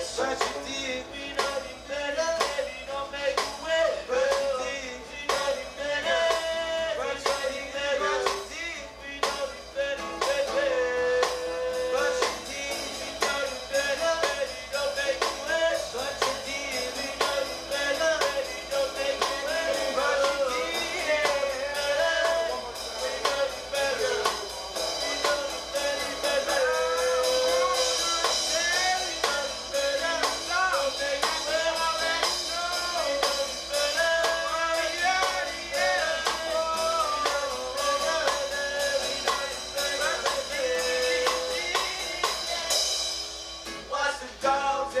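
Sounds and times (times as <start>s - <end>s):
man singing: 0.0s - 43.0s, 43.8s - 45.0s
acoustic guitar strumming: 0.0s - 45.0s.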